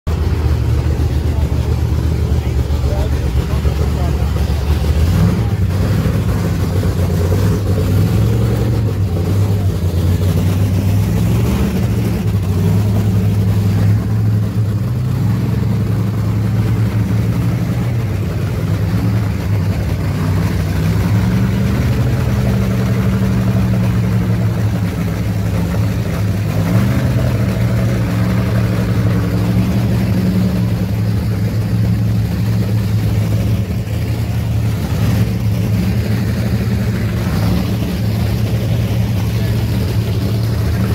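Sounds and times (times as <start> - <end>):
race car engine idling: 0.0 - 40.9.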